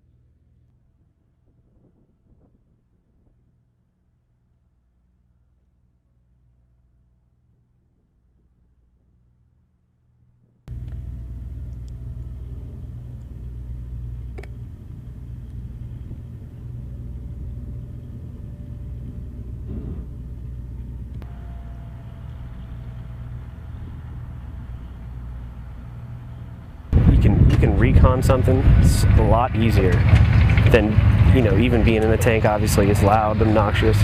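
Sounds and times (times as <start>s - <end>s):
vehicle engine low rumble: 0.0s - 34.0s.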